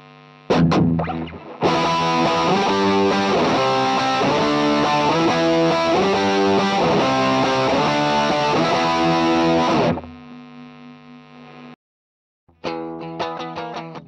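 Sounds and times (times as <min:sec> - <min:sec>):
distorted electric guitar chords: 0:00.0 - 0:10.5, 0:12.5 - 0:14.0.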